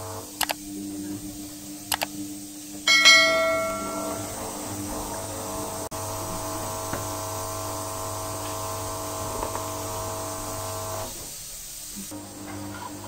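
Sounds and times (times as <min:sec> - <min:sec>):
power tool motor humming: 0:00.0 - 0:12.1.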